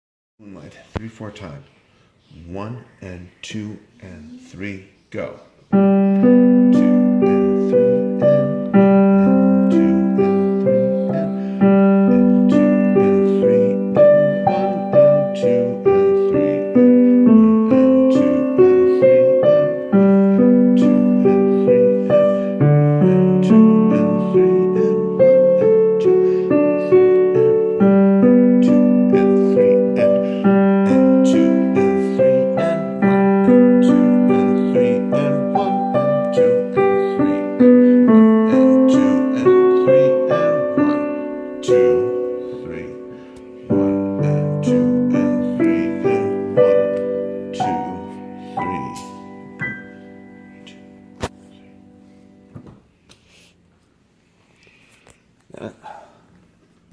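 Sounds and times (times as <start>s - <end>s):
solo piano waltz: 5.7s - 52.7s.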